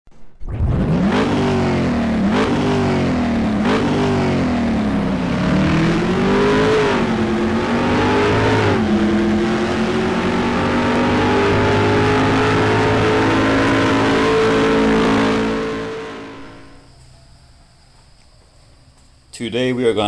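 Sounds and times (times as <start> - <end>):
car engine accelerating through gears: 0.4 - 16.8.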